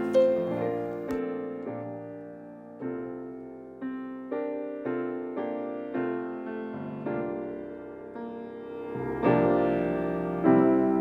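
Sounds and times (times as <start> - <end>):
gentle solo piano: 0.0 - 11.0.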